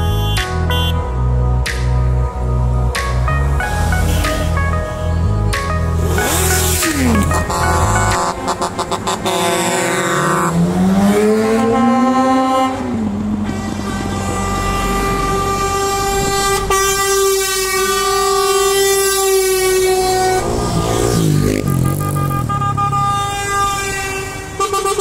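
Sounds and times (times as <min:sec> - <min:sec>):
truck air horns blasting: 0:00.0 - 0:01.2, 0:03.5 - 0:25.0.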